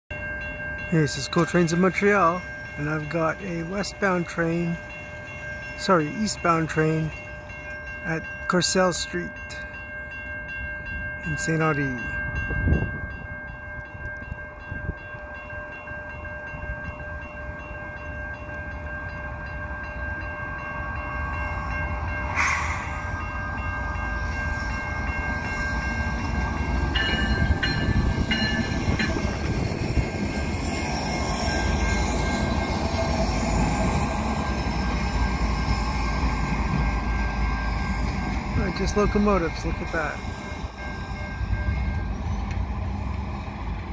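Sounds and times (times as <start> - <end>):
diesel locomotive engine rumble: 0.1 - 43.9
railway crossing bell ringing: 0.1 - 43.9.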